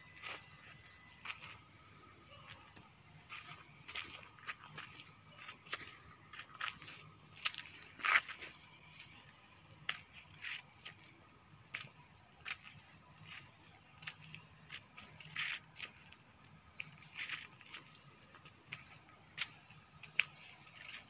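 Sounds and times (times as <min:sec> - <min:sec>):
footsteps scuffing on pavement: 0:00.1 - 0:01.6, 0:02.4 - 0:09.2, 0:09.8 - 0:21.0.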